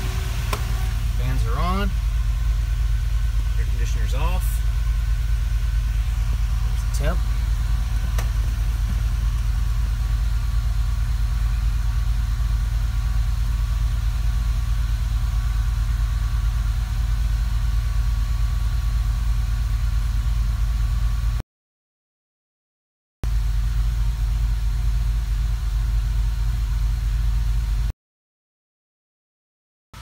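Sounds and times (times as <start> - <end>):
engine idling inside cab: 0.0 - 21.4, 23.2 - 27.9.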